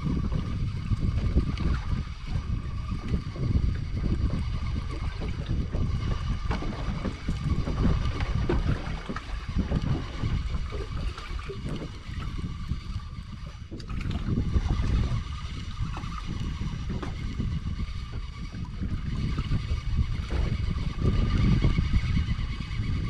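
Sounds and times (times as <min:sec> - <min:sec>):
water lapping against boat hull: 0:00.0 - 0:23.0
wind rumbling on microphone: 0:00.0 - 0:23.0.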